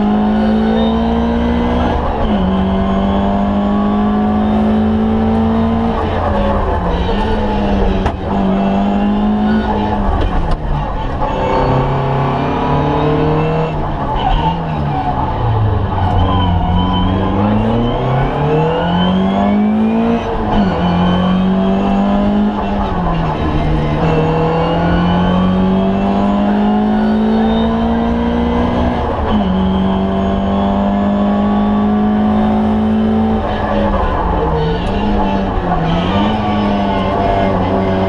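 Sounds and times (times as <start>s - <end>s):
car engine accelerating hard: 0.0s - 38.0s.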